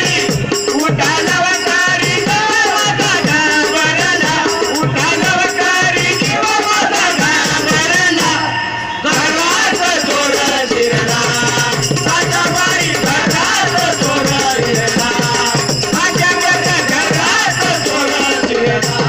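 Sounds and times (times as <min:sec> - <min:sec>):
jingling hand cymbals: 0:00.0 - 0:19.0
percussion beat: 0:00.0 - 0:19.0
voices singing devotional song: 0:00.0 - 0:19.0.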